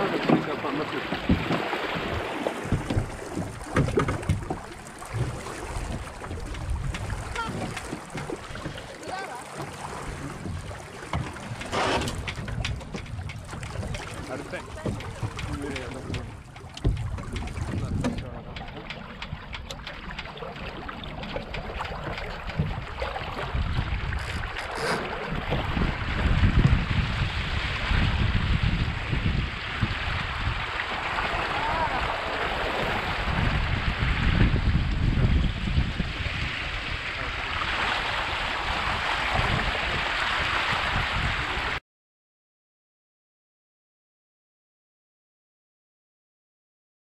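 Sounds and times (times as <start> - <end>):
water splashing along hulls: 0.0 - 41.8
wind buffeting microphone: 0.0 - 41.8.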